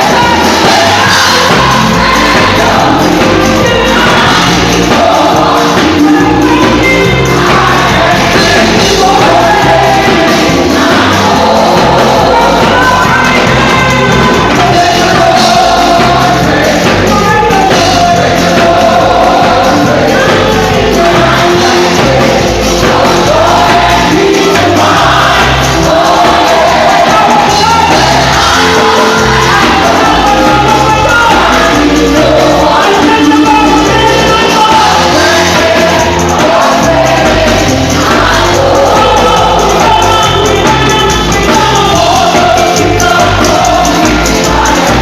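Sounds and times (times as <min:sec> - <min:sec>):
bass line: 0:00.0 - 0:45.0
live gospel band: 0:00.0 - 0:45.0
people singing: 0:00.0 - 0:45.0.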